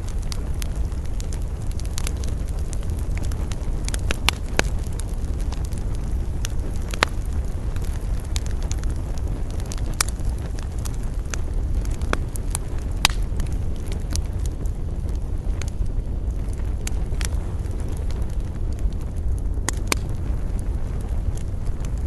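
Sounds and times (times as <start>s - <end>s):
low rumble of wind: 0.0s - 22.0s
wood fire crackling and popping: 0.0s - 22.0s.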